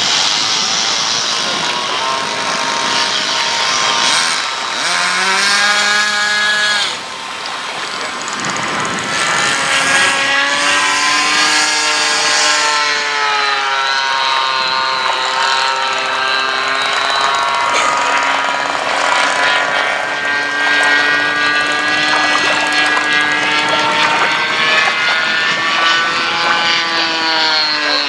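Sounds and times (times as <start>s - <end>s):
electric motor and propeller whining: 0.0s - 28.0s.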